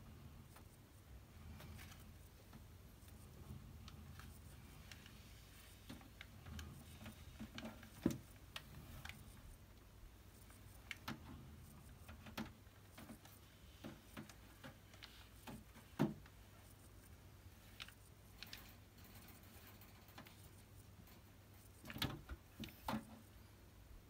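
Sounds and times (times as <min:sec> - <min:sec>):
faint clicks and ticks: 0:00.0 - 0:23.9.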